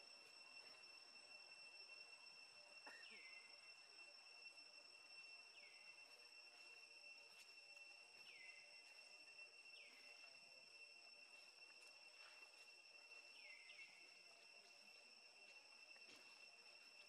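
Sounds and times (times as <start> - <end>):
faint high-pitched insect drone: 0.0 - 17.0.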